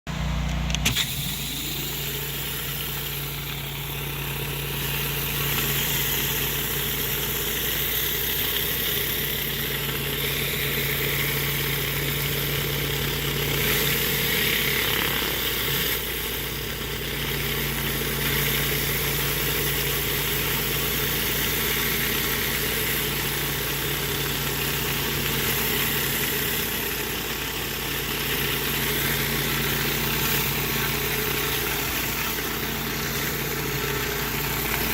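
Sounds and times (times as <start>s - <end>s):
pressure washer engine running: 0.1s - 34.9s
water spray hissing: 0.9s - 34.9s.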